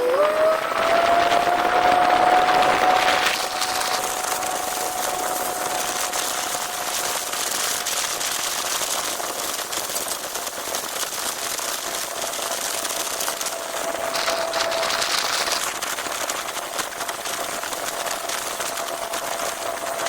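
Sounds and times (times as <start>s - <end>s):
outboard motor whining: 0.0s - 20.0s
wind and water rushing: 0.0s - 20.0s.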